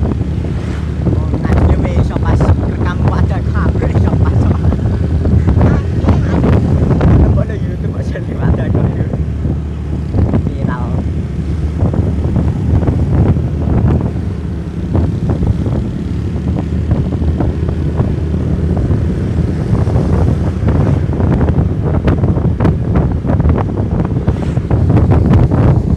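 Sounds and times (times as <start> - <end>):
motorcycle engines running: 0.0 - 25.9
wind buffeting microphone: 0.0 - 25.9.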